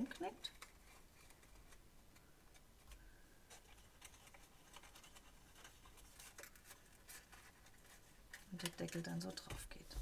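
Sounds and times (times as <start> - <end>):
cardstock packaging rustling and clicking: 0.0 - 10.0.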